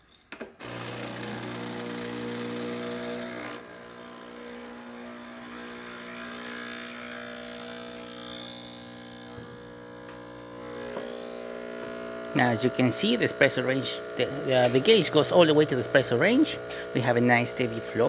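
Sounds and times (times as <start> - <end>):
espresso machine pump humming: 0.6 - 18.0.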